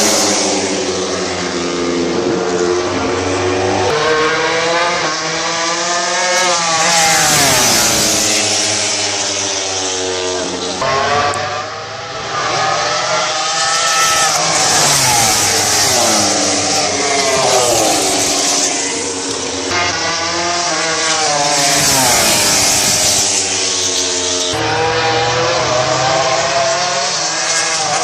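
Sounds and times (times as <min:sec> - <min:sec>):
racing motorcycles passing: 0:00.0 - 0:28.0
wind and tyre noise: 0:00.0 - 0:28.0.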